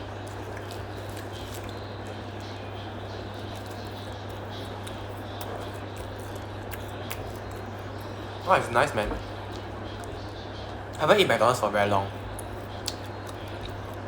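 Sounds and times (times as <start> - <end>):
person eating quietly: 0.0 - 14.0.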